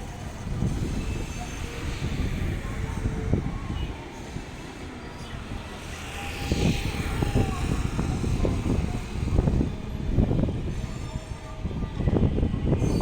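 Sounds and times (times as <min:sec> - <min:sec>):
train rumbling over bridge: 0:00.0 - 0:13.0.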